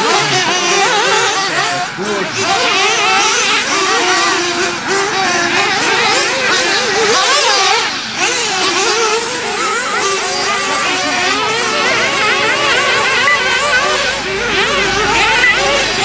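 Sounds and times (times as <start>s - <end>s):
rc car motor revving: 0.0s - 16.0s.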